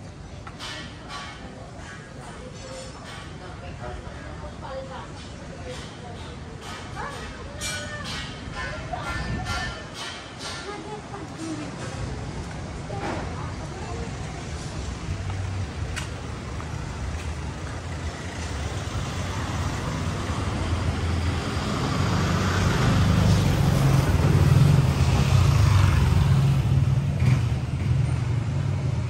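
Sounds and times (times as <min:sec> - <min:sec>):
street traffic: 0:00.0 - 0:29.0
diesel engine rumbling: 0:03.1 - 0:29.0.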